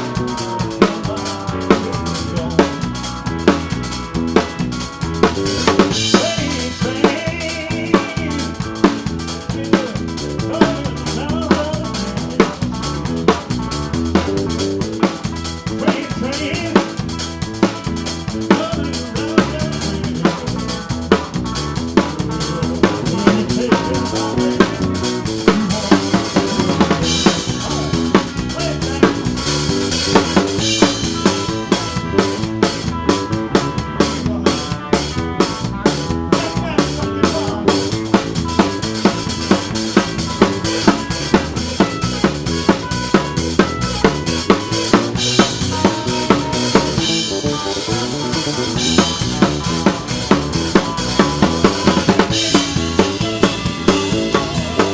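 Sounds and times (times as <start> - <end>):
band playing: 0.0 - 54.9
drum kit beat: 0.0 - 54.9.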